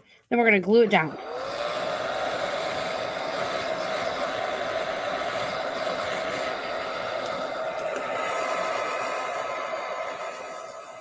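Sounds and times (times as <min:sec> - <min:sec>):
heat gun fan whirring: 0:00.7 - 0:11.0.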